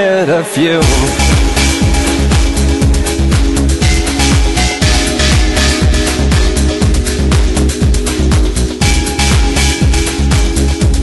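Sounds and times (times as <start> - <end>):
electronic dance-pop music: 0.0 - 11.0
kick-drum beat: 0.8 - 11.0.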